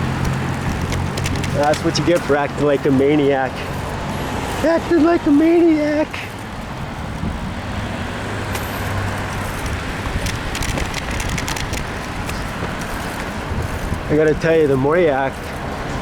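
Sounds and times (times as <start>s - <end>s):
passing vehicle engine hum: 0.0s - 16.0s
road traffic: 0.0s - 16.0s
wind rumbling on microphone: 0.0s - 16.0s.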